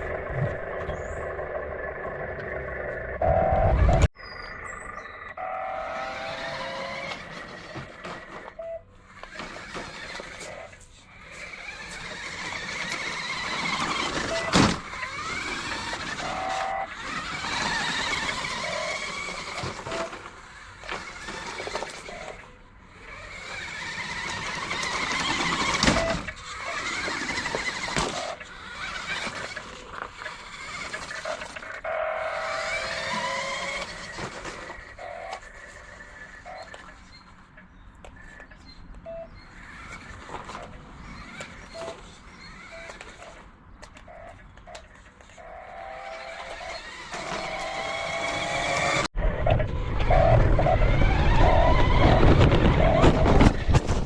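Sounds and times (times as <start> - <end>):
simulated engine sound from speaker: 0.0 - 53.7.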